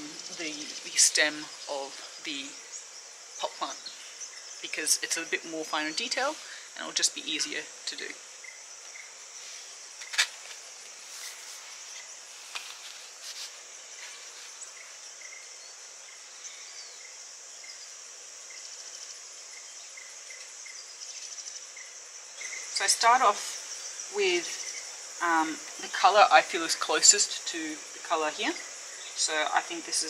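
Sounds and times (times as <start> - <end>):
insects buzzing drone: 0.0 - 30.0.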